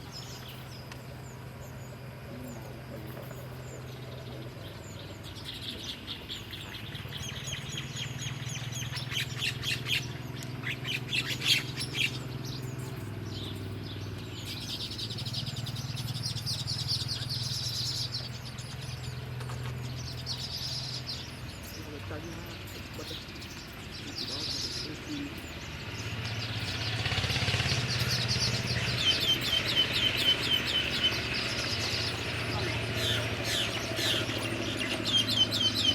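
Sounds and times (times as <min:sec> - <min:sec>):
high bird trill: 0:00.0 - 0:35.9
small birds chirping: 0:00.0 - 0:35.9.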